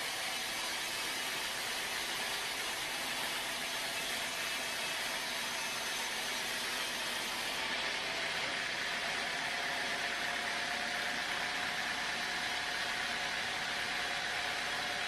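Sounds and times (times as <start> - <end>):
engine-driven saw droning: 2.6 - 15.0.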